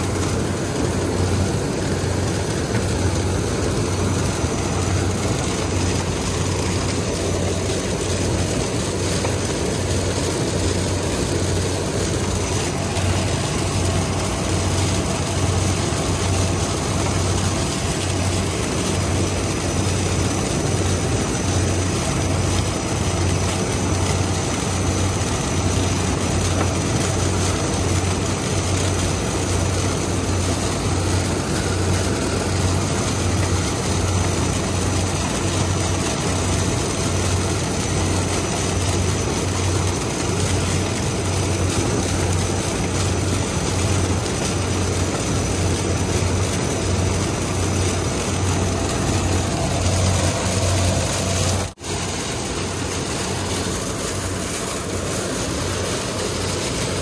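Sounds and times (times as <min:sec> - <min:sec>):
combine harvester engine running: 0:00.0 - 0:57.0.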